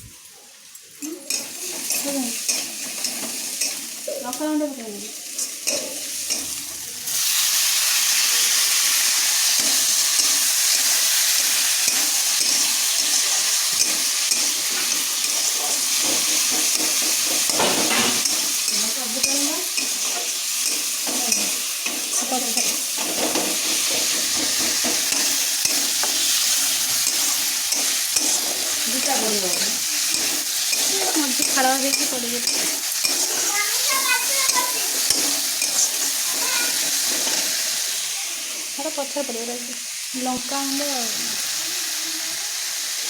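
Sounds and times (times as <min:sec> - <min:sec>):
food sizzling in hot oil: 0:00.0 - 0:43.0
spatula scraping a pan: 0:01.2 - 0:04.1, 0:05.0 - 0:38.8.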